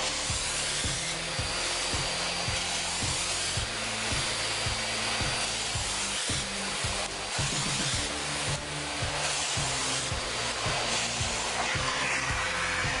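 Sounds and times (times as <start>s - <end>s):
vacuum cleaner on carpet: 0.0s - 13.0s.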